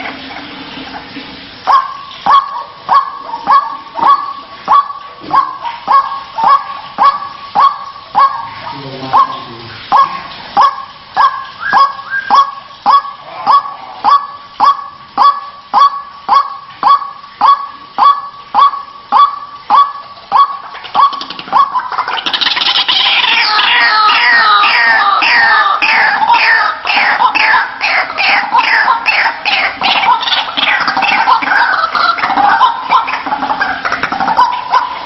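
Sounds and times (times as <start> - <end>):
waterhen calling harsh honking: 1.4 - 35.0.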